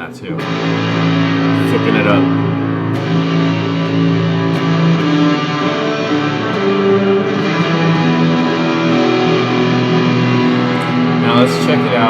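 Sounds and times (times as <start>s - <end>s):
fuzz electric guitar: 0.0s - 12.0s.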